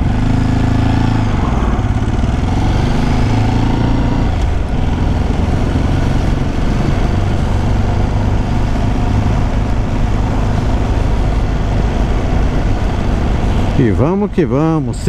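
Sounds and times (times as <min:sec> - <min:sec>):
motorcycle engine at low revs: 0:00.0 - 0:15.0
wind rushing over microphone: 0:00.0 - 0:15.0.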